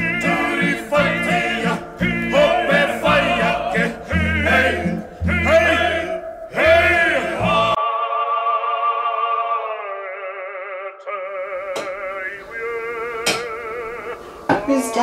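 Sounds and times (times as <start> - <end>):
operatic solo singing: 0.0 - 15.0.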